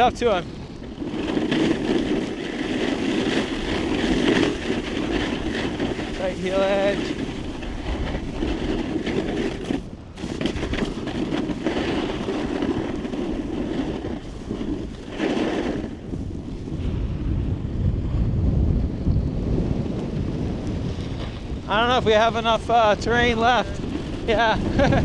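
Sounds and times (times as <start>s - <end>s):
snowboard scraping across snow: 0.0s - 25.0s
wind buffeting microphone: 0.0s - 25.0s.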